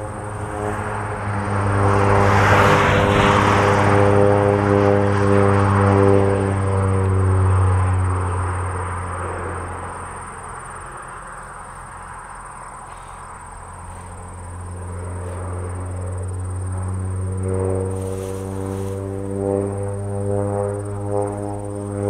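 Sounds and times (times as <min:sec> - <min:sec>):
airplane engine droning: 0:00.0 - 0:22.0.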